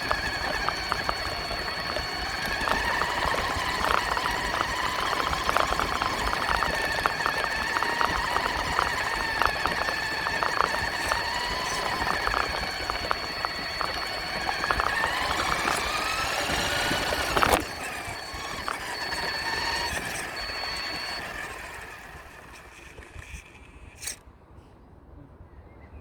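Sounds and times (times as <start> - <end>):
small clicks and knocks: 0.0 - 24.2
toy truck motor whine: 0.0 - 24.3.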